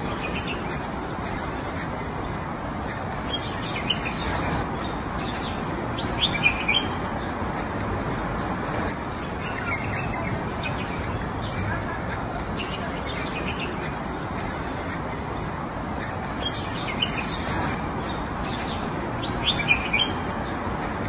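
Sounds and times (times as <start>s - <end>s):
small birds chirping: 0.0s - 21.0s
steady background noise: 0.0s - 21.0s.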